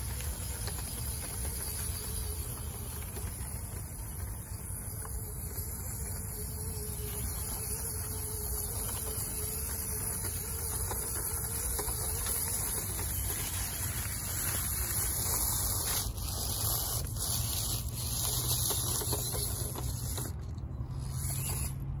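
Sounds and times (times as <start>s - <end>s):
constant hiss: 0.0s - 21.8s
toy electric motor whining: 0.0s - 22.0s.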